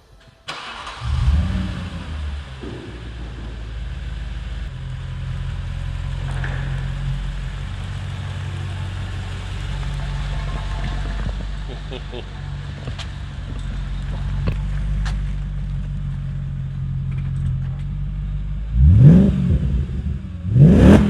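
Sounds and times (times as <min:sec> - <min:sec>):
car engine starting and idling: 0:00.2 - 0:21.0.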